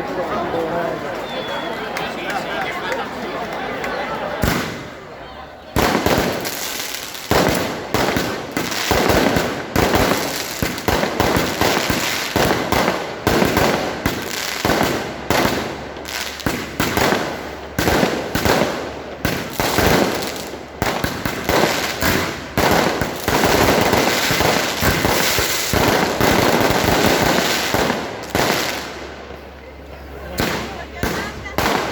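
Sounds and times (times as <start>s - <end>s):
fireworks banging and crackling: 4.4s - 5.0s, 5.7s - 31.9s.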